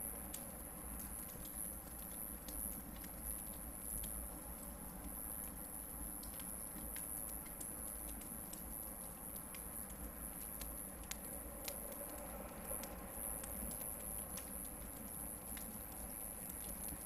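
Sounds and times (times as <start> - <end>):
low fire rumble: 0.0 - 17.0
campfire crackling and popping: 0.1 - 17.0.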